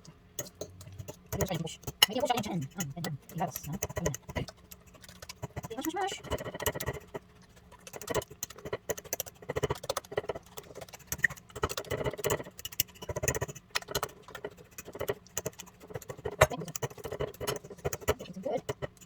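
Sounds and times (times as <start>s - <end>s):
fork tapping and scraping bowl: 0.0s - 19.0s.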